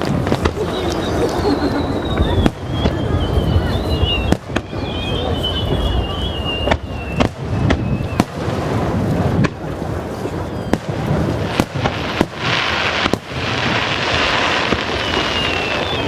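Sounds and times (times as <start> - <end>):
dense crackling hiss: 0.0 - 16.0.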